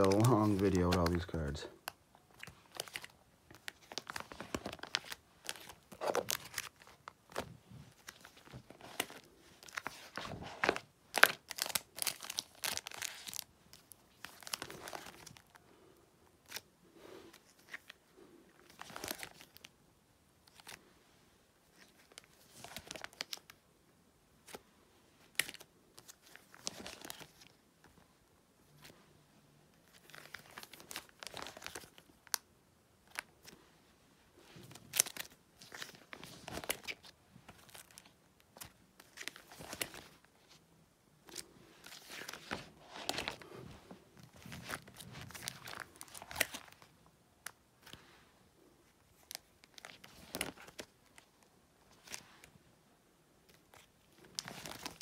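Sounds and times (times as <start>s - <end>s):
plastic binder pages crinkling: 0.0s - 15.6s, 16.4s - 16.7s, 17.3s - 18.0s, 18.6s - 19.7s, 20.4s - 20.8s, 21.6s - 23.6s, 24.4s - 24.6s, 25.2s - 28.0s, 29.7s - 33.6s, 34.4s - 40.6s, 41.2s - 48.1s, 48.8s - 52.5s, 53.5s - 55.0s.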